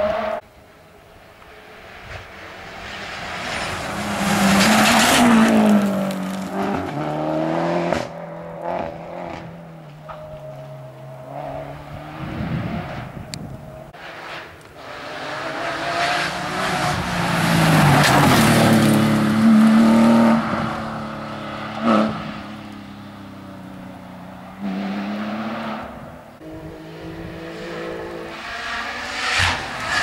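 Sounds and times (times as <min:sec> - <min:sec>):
rally car engine revving: 0:02.6 - 0:30.0.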